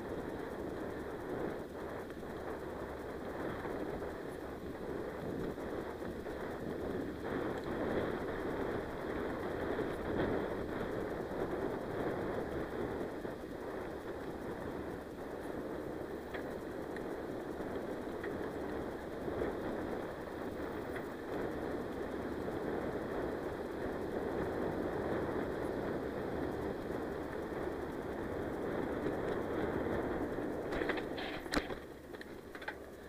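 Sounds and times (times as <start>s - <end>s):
bike rattling: 0.0s - 33.0s.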